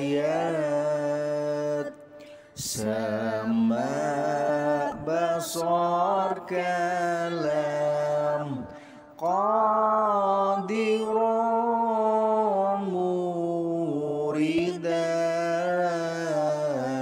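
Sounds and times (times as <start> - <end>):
person chanting melodically: 0.0 - 17.0.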